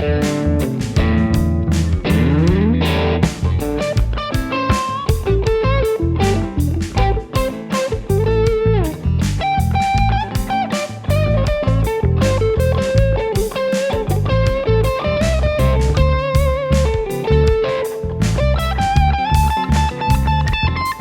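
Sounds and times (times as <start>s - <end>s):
drums and bass backing track: 0.0s - 21.0s
electric guitar lead: 0.0s - 21.0s.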